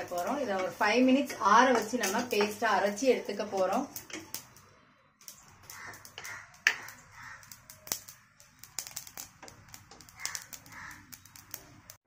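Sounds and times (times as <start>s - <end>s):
tongs clicking on pan: 0.0s - 4.5s, 5.3s - 11.7s.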